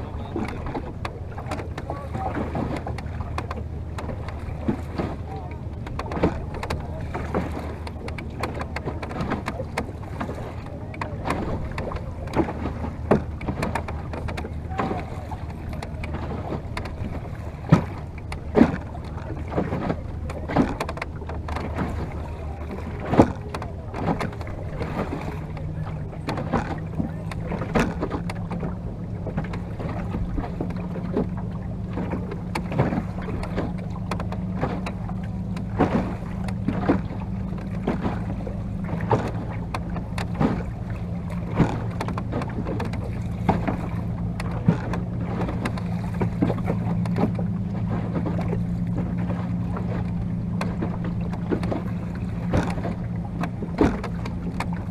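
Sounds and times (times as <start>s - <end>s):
water splashing against wooden hull: 0.0s - 54.9s.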